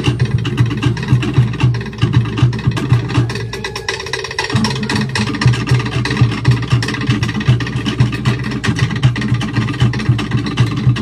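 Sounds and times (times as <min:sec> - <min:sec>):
deep drum pulsing: 0:00.0 - 0:11.0
wooden slit drum beats: 0:00.0 - 0:11.0.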